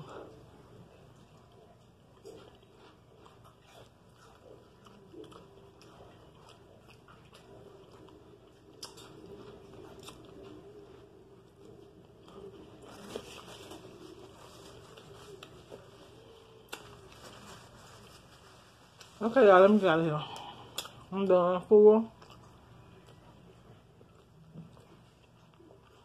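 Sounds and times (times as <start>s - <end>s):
person chewing: 0.0s - 19.1s, 20.3s - 21.1s, 22.1s - 26.0s.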